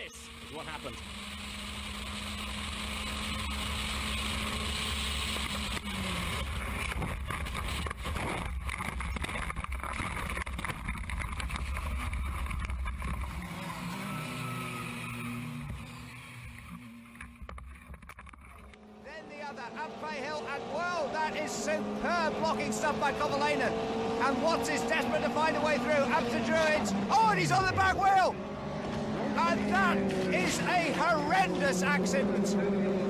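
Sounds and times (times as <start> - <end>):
race car engine: 0.0 - 33.0.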